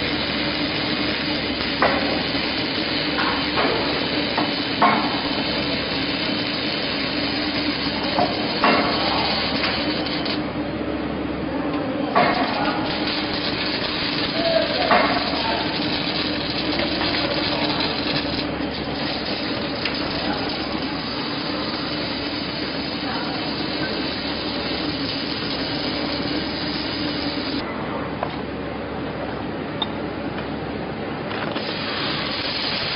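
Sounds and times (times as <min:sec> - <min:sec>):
welding arc crackling hiss: 0:00.0 - 0:10.5, 0:12.2 - 0:27.6, 0:31.3 - 0:32.9
machine hum: 0:00.0 - 0:32.9.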